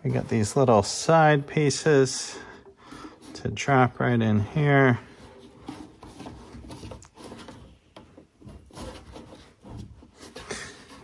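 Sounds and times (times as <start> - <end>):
felt rubbing: 0.0 - 11.0.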